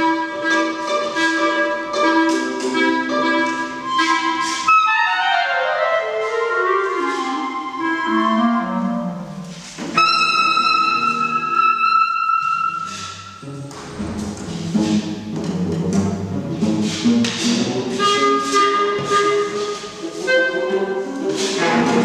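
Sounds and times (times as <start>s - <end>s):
chamber music for clarinet and strings: 0.0s - 22.0s.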